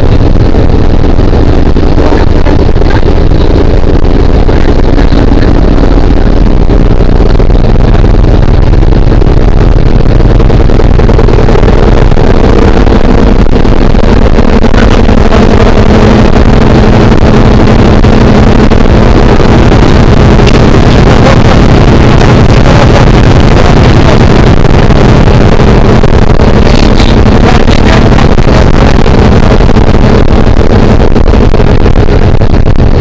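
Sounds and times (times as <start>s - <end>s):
plane engine drone: 0.0s - 33.0s.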